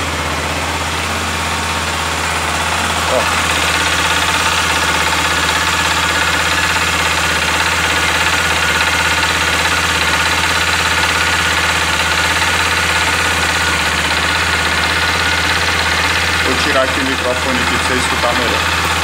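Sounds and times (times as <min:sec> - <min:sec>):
engine knocking: 0:00.0 - 0:19.0
motorcycle engine idling: 0:00.0 - 0:19.0.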